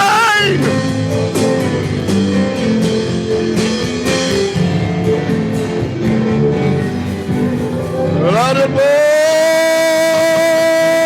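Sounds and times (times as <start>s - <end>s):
bass guitar: 0.0s - 11.0s
drum kit strokes: 0.0s - 11.0s.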